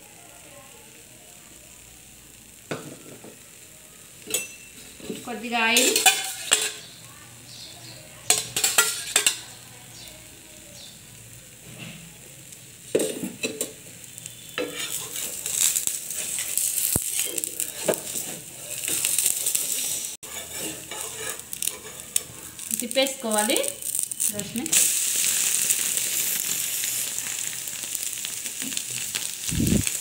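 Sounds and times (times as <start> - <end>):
oil sizzling on hot pan: 0.0 - 30.0.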